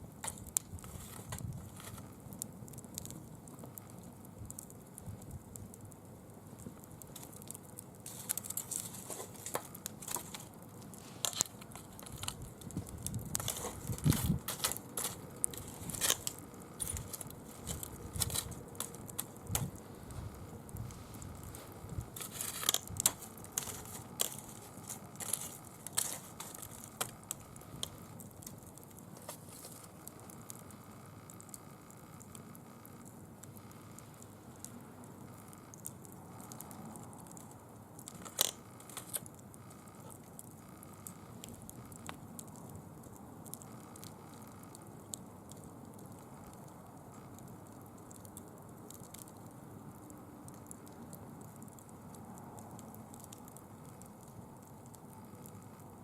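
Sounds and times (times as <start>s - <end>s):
dry leaves crackling in fire: 0.0s - 56.0s.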